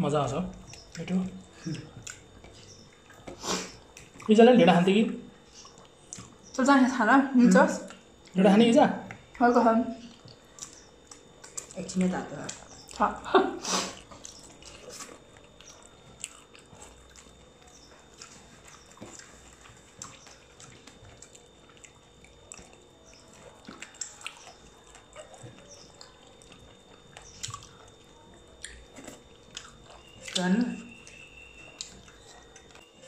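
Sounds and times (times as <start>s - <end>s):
chewing and lip smacks: 0.4s - 4.4s, 5.1s - 6.7s, 7.4s - 8.4s, 10.0s - 33.0s.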